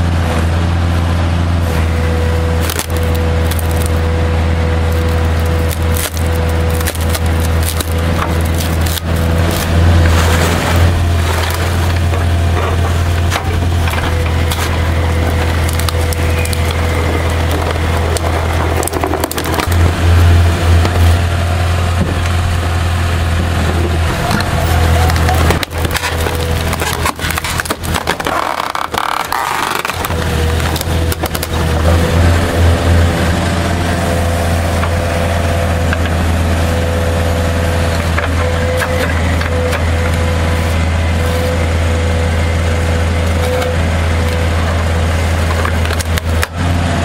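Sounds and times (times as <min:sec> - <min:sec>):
excavator engine running: 0:00.0 - 0:47.0
steady whine: 0:00.0 - 0:47.0
wood cracking and splintering: 0:01.8 - 0:47.0.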